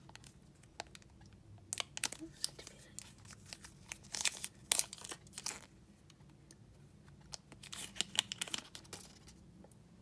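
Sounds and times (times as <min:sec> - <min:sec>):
plastic film peeling and crinkling: 0:00.0 - 0:05.8, 0:07.1 - 0:09.4.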